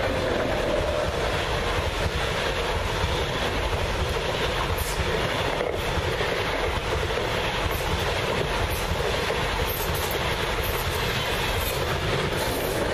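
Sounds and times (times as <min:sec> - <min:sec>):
high-speed train passing: 0:00.0 - 0:12.9.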